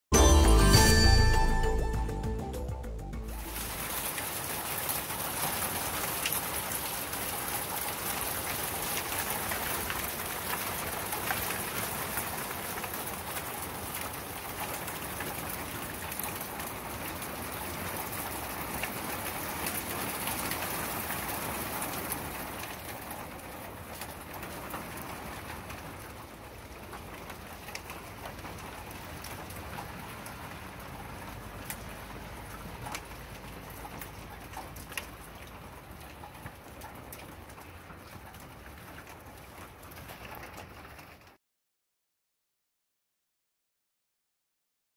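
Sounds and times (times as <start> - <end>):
rain hiss: 3.3 - 41.0
hail on wooden deck: 3.4 - 41.4.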